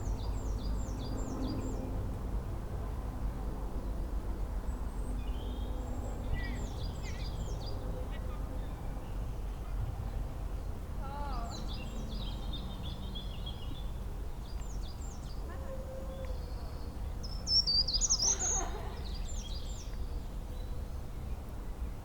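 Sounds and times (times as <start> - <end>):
songbirds chirping and trilling: 0.0 - 1.9, 4.7 - 21.5.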